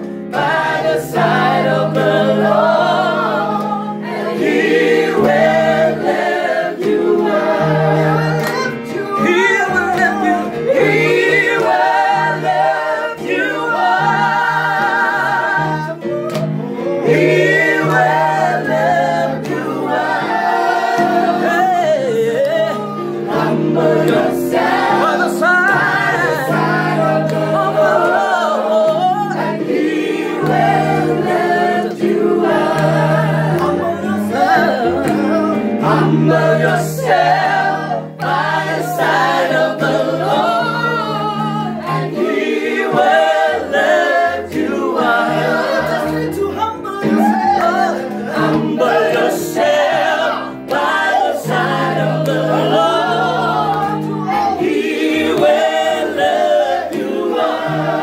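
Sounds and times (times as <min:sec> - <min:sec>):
group singing gospel song: 0:00.0 - 0:58.0.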